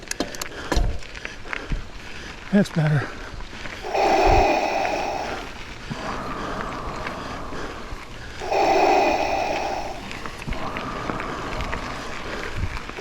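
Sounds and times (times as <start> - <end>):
person breathing hard: 0.0 - 13.0.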